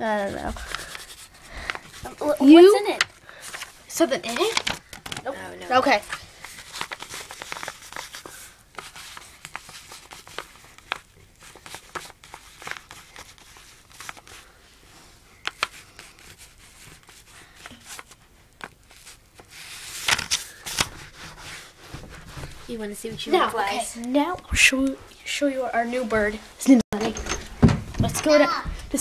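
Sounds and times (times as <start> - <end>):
paper rustling and crinkling: 0.0 - 24.3.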